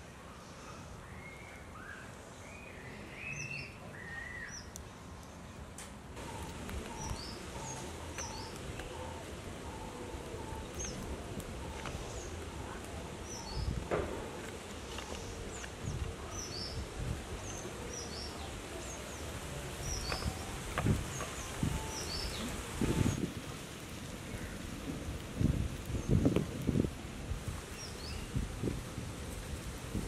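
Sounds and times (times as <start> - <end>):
birds chirping: 0.1 - 23.3, 27.7 - 28.6.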